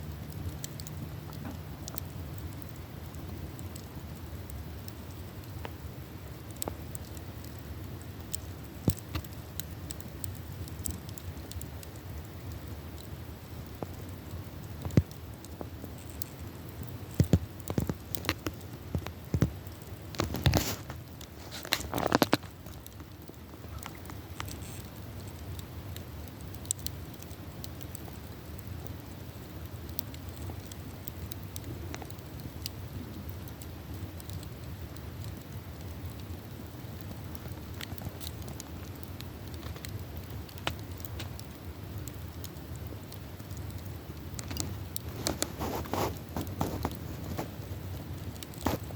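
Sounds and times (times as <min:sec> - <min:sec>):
campfire crackling and popping: 0:00.0 - 0:48.9
fire hissing: 0:00.1 - 0:48.9.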